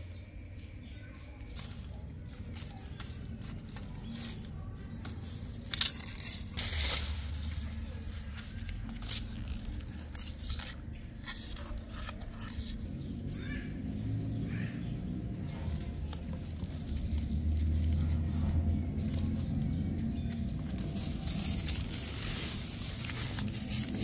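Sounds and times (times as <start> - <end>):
dry leaves rustling and crackling: 1.4 - 24.0
low steady rumble: 1.6 - 24.0.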